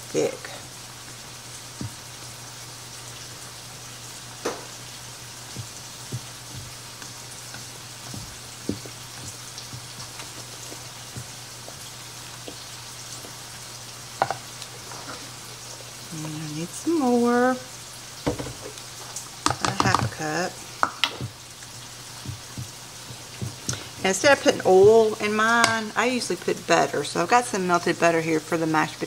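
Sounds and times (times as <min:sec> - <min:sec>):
low hum and faint hiss: 0:00.0 - 0:29.0.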